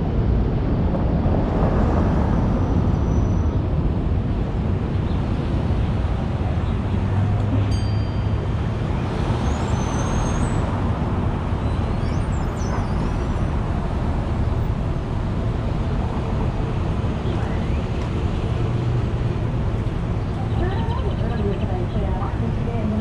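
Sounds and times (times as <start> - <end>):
streetcar running with low hum: 0.0 - 23.0.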